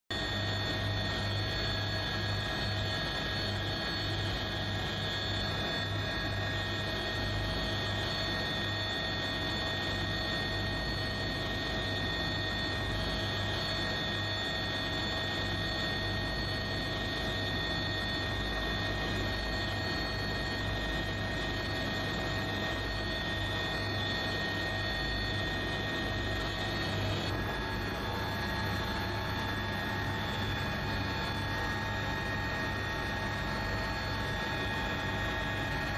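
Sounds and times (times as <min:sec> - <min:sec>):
helicopter engine and rotor drone: 0:00.1 - 0:35.9
high steady whining tones: 0:00.1 - 0:35.9.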